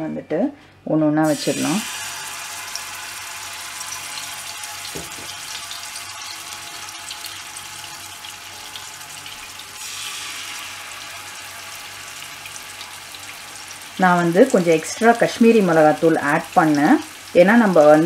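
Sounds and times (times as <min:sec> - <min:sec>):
fish sizzling in oil: 0:01.3 - 0:18.0.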